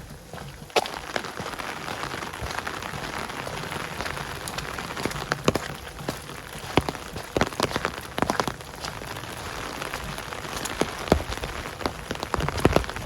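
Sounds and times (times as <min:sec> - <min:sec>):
steady rain: 0:00.0 - 0:13.0
sharp raindrop hits: 0:00.4 - 0:13.0.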